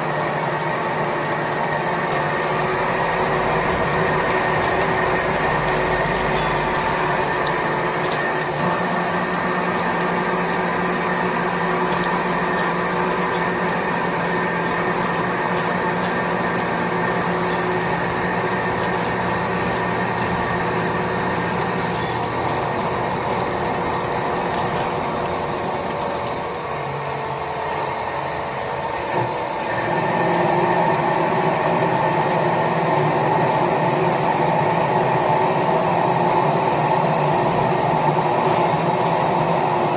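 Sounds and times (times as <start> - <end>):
lathe running: 0.0 - 39.9
low machine hum: 0.0 - 39.9.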